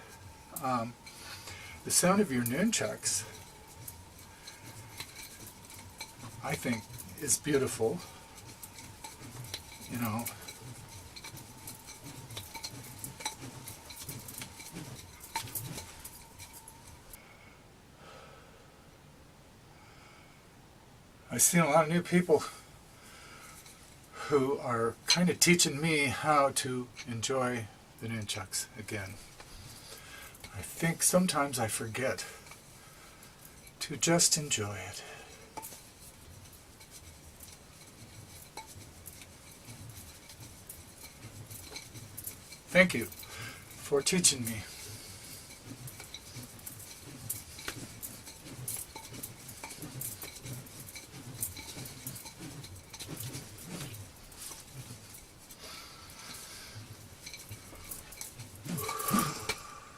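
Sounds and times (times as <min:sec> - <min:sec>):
nunchaku chain rattling: 0:00.0 - 0:17.2, 0:23.4 - 0:24.3, 0:28.0 - 0:59.9.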